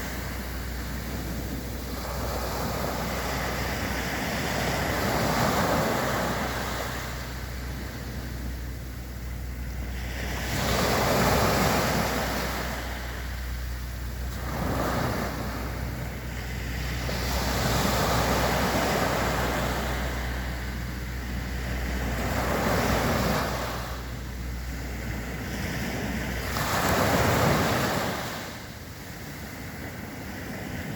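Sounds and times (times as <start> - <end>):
sea waves breaking on beach: 0.0 - 30.9
steady low hum: 0.0 - 30.9.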